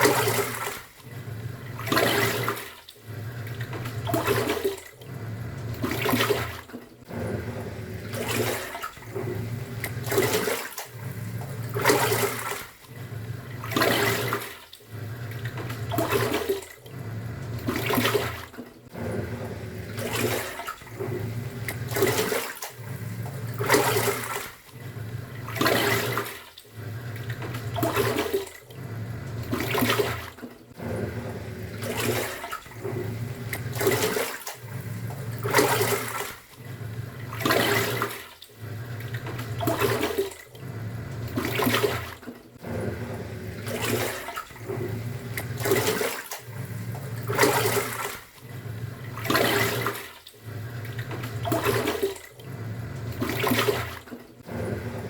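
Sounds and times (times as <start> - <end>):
washing machine motor hum: 0.0 - 55.0
water churning and sloshing: 0.0 - 55.0.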